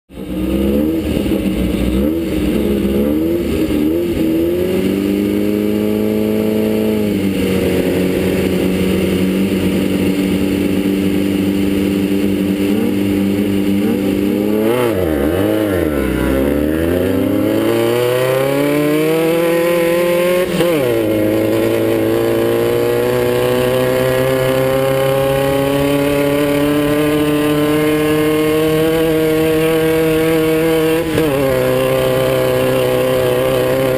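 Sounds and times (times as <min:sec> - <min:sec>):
buggy engine revving hard: 0:00.1 - 0:33.9.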